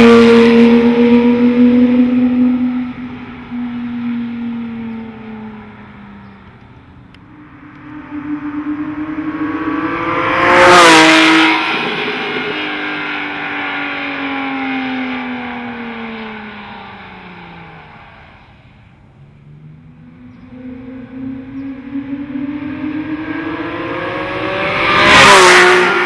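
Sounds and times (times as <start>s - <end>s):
sports car accelerating past: 0.0s - 26.0s.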